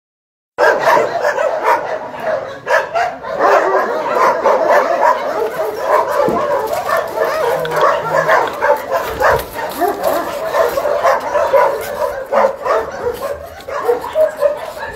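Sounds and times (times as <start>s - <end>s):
many dogs barking and yipping: 0.6s - 14.9s.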